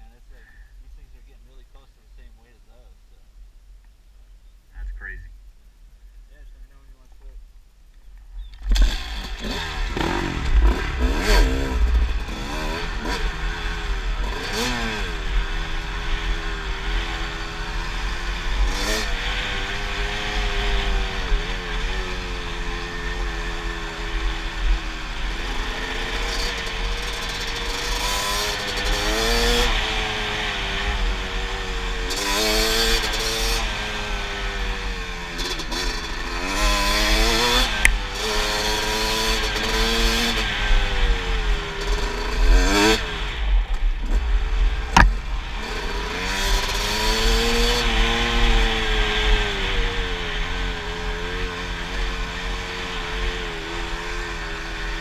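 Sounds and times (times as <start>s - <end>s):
dirt bike engine revving: 8.6s - 55.0s.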